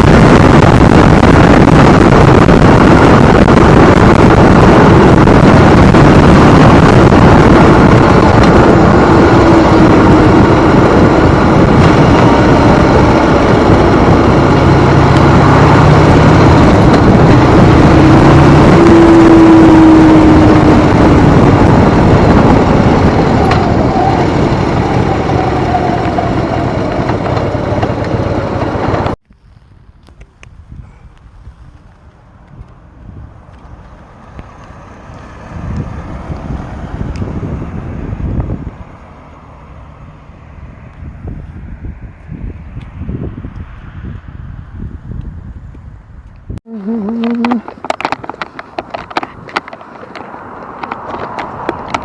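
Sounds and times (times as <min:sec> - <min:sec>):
motorcycle engine riding: 0:00.0 - 0:52.0
wind rushing on microphone: 0:00.0 - 0:52.0.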